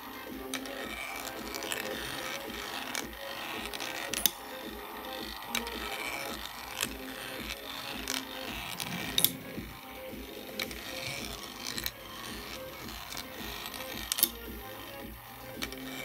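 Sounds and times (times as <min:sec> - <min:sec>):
small electric motor running: 0:00.0 - 0:16.0
steel balls clicking and rattling: 0:00.0 - 0:16.0.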